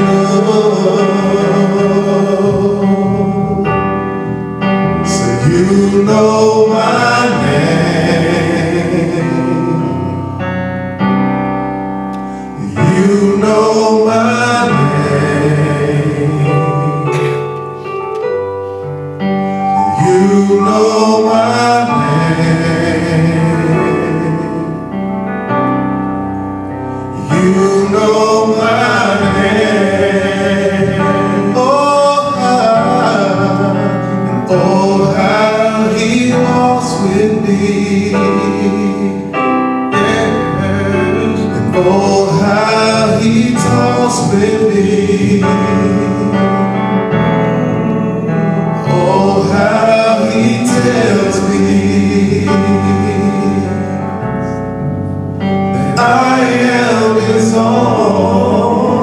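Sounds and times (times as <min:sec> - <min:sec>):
male vocal quartet singing gospel: 0:00.0 - 0:11.1, 0:12.1 - 0:25.9, 0:26.8 - 0:54.8, 0:55.4 - 0:59.0.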